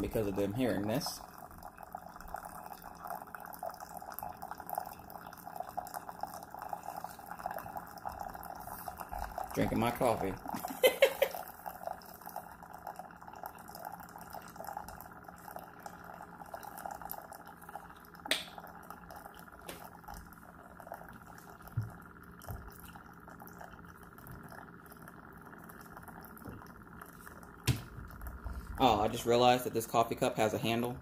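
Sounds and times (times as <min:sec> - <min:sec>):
water trickling into mug: 0:00.0 - 0:31.0.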